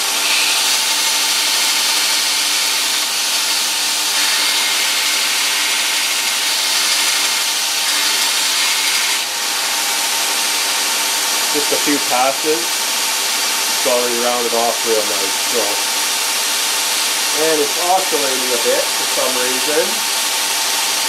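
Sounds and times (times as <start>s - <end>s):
belt grinder grinding steel: 0.0s - 21.0s
motor and belt humming: 0.0s - 21.0s.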